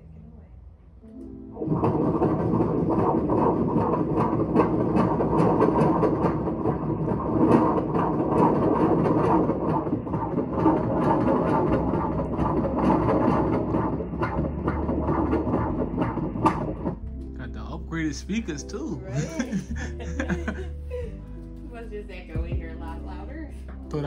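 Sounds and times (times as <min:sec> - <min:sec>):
fetal heartbeat whooshing pulse: 0:01.5 - 0:23.6.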